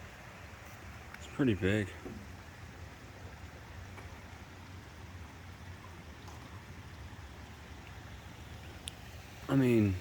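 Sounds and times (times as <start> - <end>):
creek waterfall rushing: 0.0 - 10.0.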